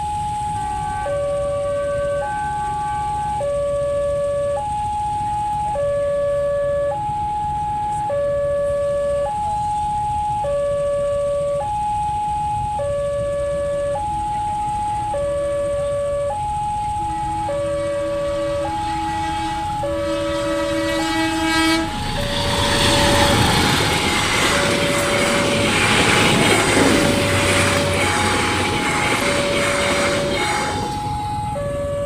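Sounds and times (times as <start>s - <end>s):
two-tone crossing alarm: 0.0s - 32.0s.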